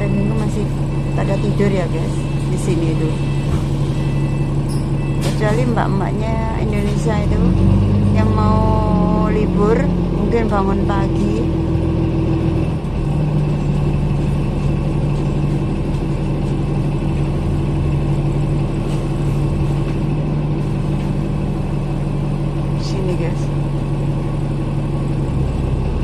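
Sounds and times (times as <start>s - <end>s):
bus engine and road drone: 0.0s - 26.0s.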